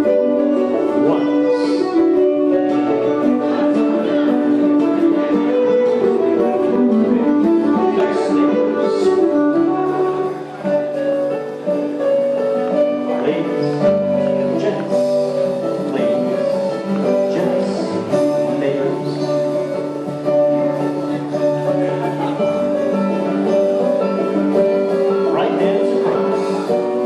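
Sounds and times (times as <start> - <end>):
dance band playing a dance tune: 0.0 - 27.0.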